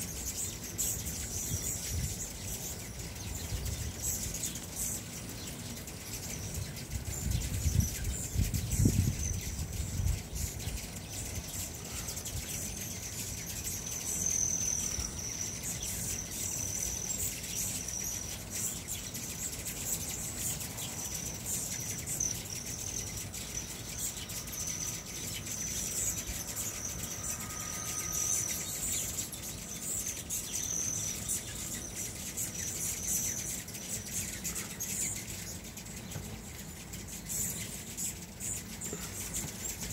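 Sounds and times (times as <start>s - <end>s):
hummingbirds twittering: 0.0s - 39.9s.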